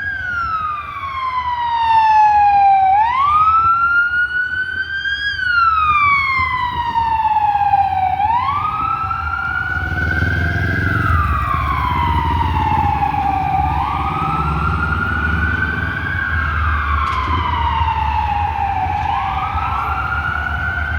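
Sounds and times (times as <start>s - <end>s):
fire truck sirens wailing: 0.0s - 20.9s
truck engines rumbling: 0.0s - 20.9s.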